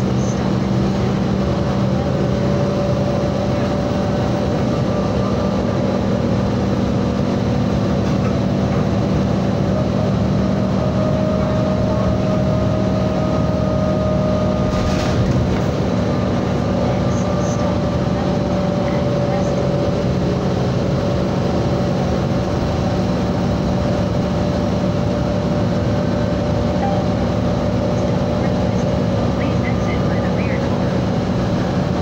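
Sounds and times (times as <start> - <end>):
bus engine hum: 0.0 - 32.0
road noise: 0.0 - 32.0.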